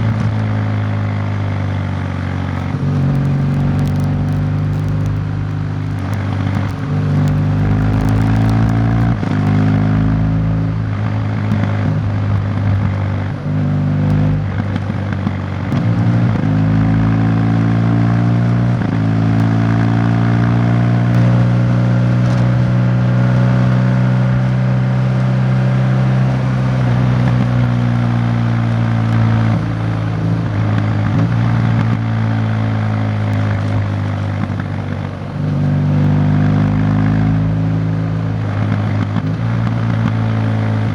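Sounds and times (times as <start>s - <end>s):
motorcycle engine shifting gears: 0.0s - 40.9s
wind and road noise: 0.0s - 40.9s.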